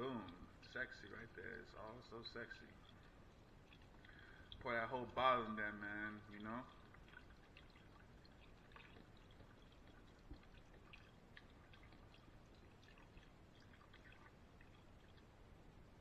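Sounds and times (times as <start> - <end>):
small splashes: 0.0 - 15.7
broth pouring into a pot: 0.0 - 16.0.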